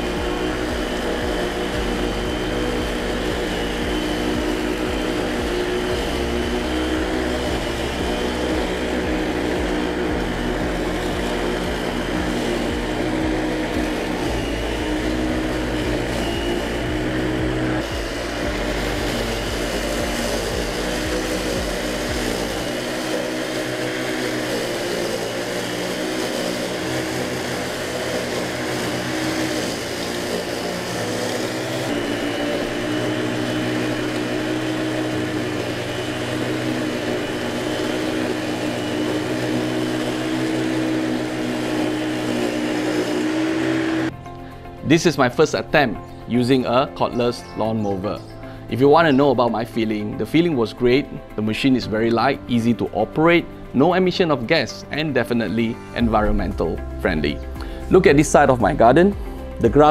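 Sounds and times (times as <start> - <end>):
background music: 0.0 - 59.9
electric lawn mower cutting grass: 0.0 - 59.9.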